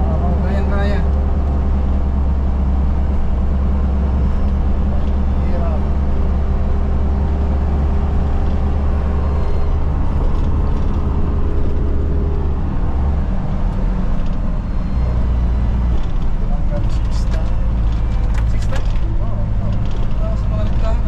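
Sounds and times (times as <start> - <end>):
truck engine drone and road noise: 0.0 - 21.0.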